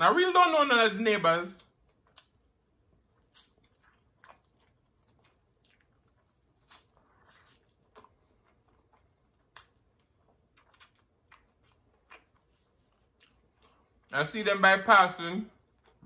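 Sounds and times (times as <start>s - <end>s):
person chewing: 1.6s - 14.1s, 15.6s - 16.0s.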